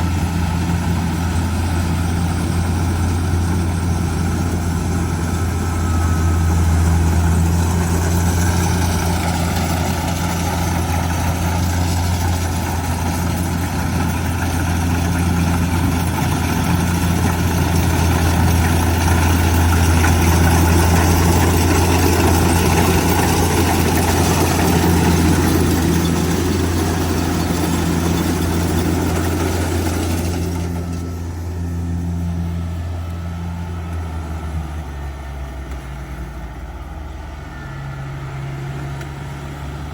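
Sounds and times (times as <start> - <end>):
combine harvester mechanical noise: 0.0 - 39.9
diesel engine running: 0.0 - 39.9.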